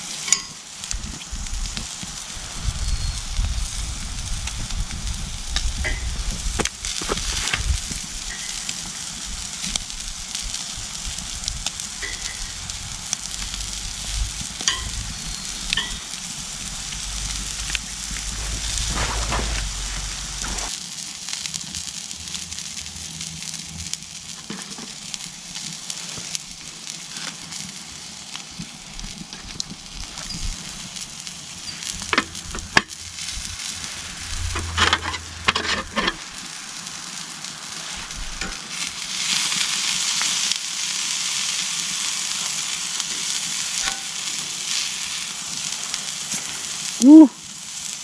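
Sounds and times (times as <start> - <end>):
food sizzling over campfire: 0.0 - 48.0.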